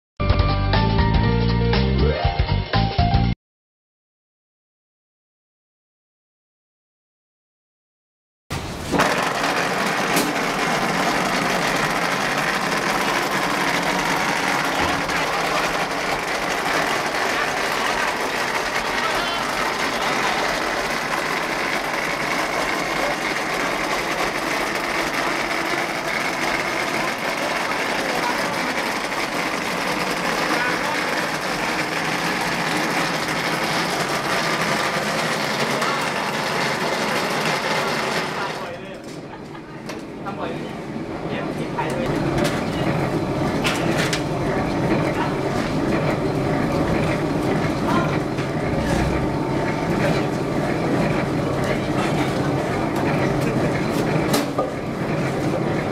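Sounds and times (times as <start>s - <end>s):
rendering machine running: 8.7s - 55.9s.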